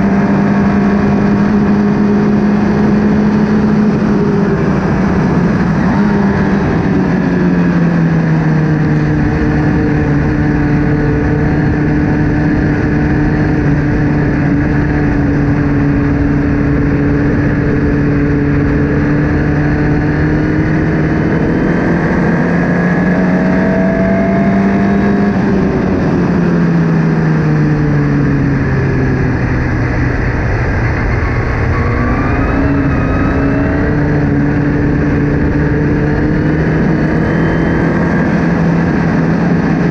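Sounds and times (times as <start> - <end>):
race car engine revving: 0.0 - 39.9
steady rushing noise: 0.0 - 39.9.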